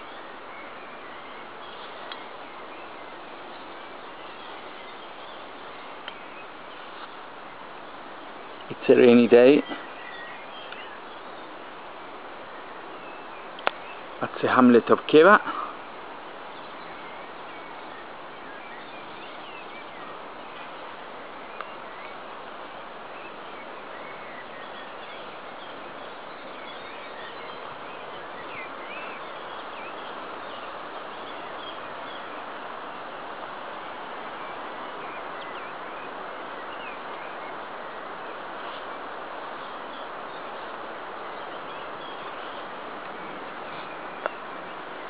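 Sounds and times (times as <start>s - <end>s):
small birds chirping: 0.0s - 45.0s
steady hiss: 0.0s - 45.0s.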